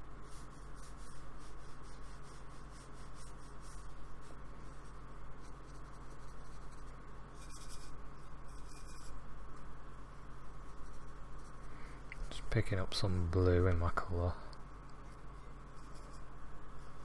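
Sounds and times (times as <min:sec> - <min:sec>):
paintbrush scratchy strokes: 0:00.0 - 0:12.9, 0:15.0 - 0:17.0.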